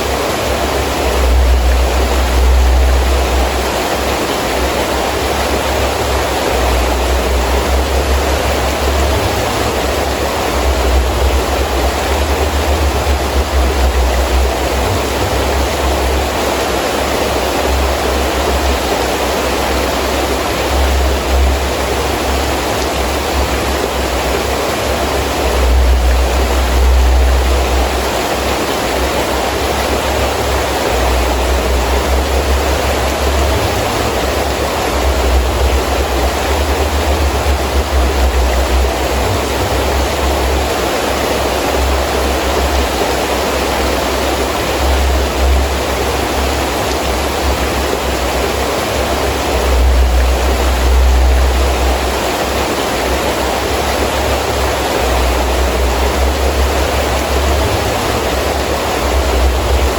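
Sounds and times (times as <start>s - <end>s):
gusting wind rumble: 0.0s - 59.9s
heavy rain falling: 0.0s - 59.9s.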